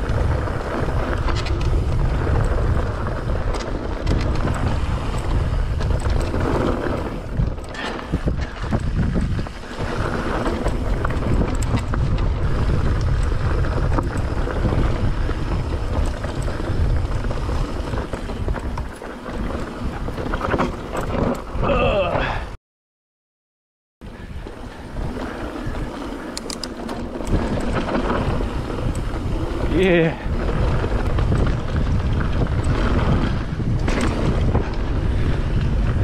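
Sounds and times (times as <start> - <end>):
bike knocks and rattles: 0.0 - 22.0, 24.2 - 36.0
tyres on loose dirt: 0.0 - 22.4, 24.0 - 36.0
wind buffeting microphone: 0.0 - 22.5, 24.0 - 36.0.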